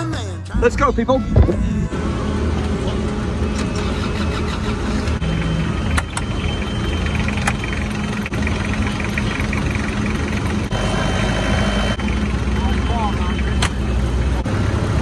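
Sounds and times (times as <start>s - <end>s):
forklift engine idling: 0.6s - 15.0s.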